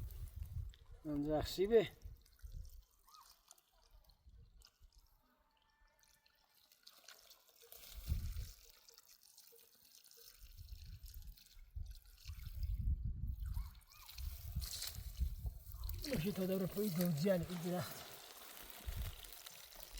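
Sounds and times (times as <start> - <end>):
water trickling and running: 0.0 - 19.9.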